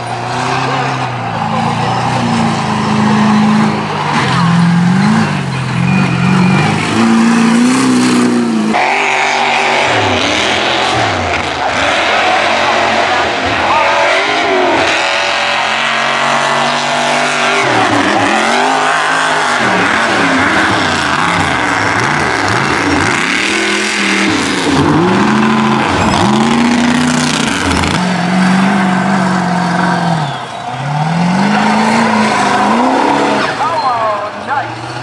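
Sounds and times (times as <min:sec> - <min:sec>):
tires spinning in dirt: 0:00.0 - 0:35.0
truck engine revving: 0:00.0 - 0:35.0.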